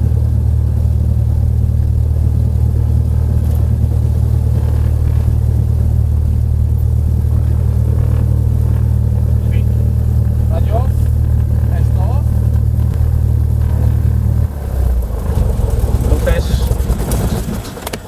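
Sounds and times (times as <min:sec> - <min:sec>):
aircraft piston engine droning: 0:00.0 - 0:18.0.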